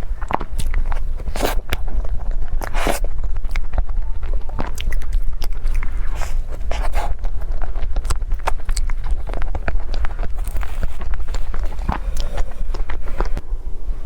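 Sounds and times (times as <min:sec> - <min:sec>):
person biting and chewing: 0:00.0 - 0:13.4.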